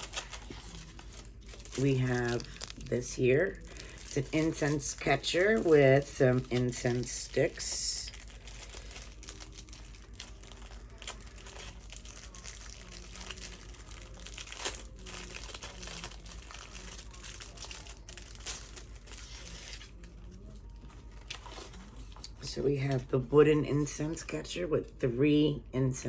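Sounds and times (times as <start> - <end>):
packaging crinkling: 0.0 - 22.4.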